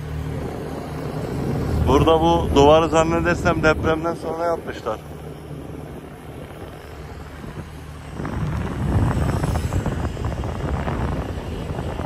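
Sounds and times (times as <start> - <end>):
low vehicle and road noise: 0.0 - 12.0
van passing: 0.0 - 12.0.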